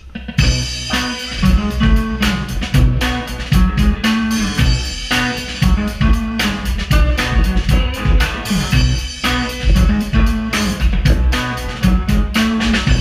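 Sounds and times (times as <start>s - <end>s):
bass line: 0.0s - 13.0s
drum kit beat: 0.0s - 13.0s
electric guitar: 0.0s - 13.0s
keyboards: 0.0s - 13.0s.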